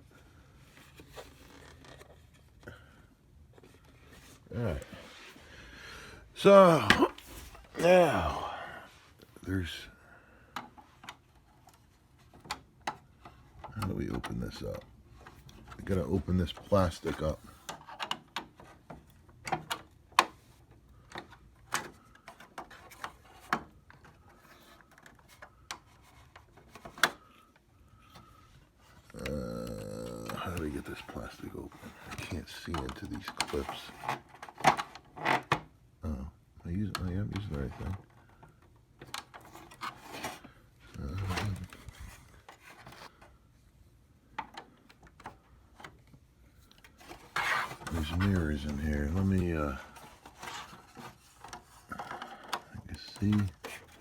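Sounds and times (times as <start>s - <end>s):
plastic scraping: 0.6s - 5.6s, 10.6s - 35.7s, 36.9s - 43.4s, 44.2s - 54.0s.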